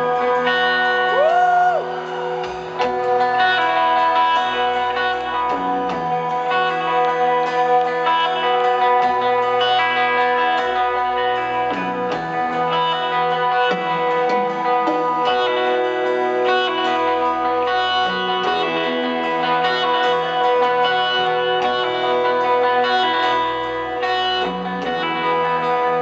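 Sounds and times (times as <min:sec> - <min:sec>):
electric guitar chords: 0:00.0 - 0:26.0
live rock band: 0:00.0 - 0:26.0.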